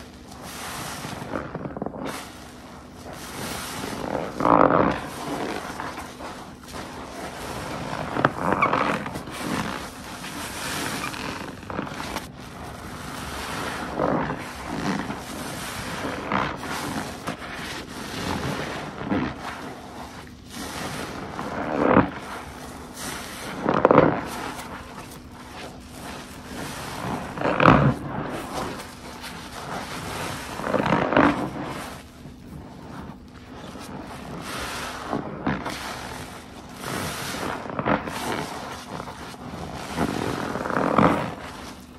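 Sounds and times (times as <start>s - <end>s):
wet sponge squelching: 0.0s - 41.9s.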